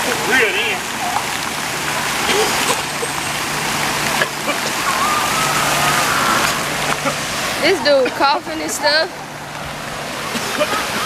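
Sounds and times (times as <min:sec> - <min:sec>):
rushing water in a pool: 0:00.0 - 0:11.0.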